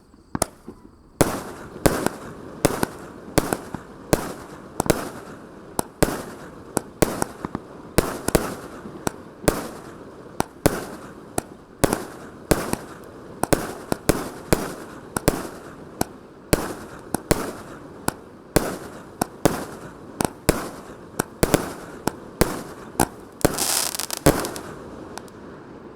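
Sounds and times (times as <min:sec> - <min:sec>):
firework bangs: 0:00.3 - 0:25.9.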